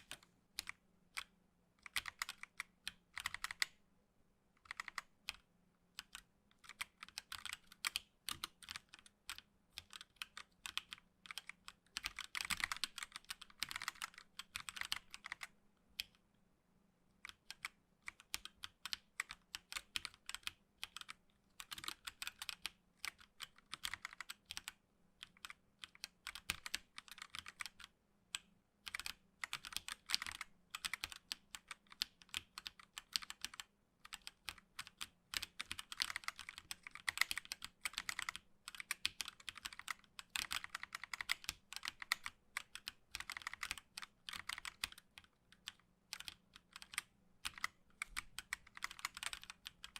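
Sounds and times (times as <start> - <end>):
typing on mechanical keyboard: 0.0 - 3.7, 4.6 - 5.4, 6.0 - 16.2, 17.2 - 49.9.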